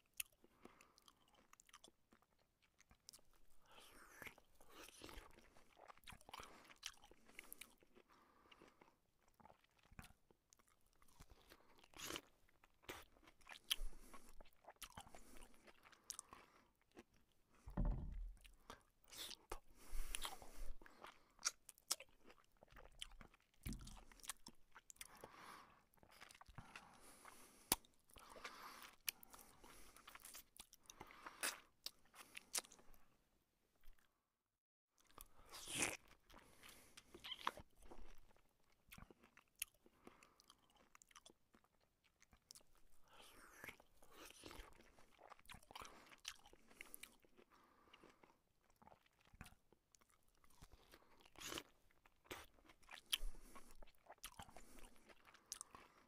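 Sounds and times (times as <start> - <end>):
chewing and wet crunching: 0.0 - 17.6, 18.4 - 33.1, 35.0 - 56.0.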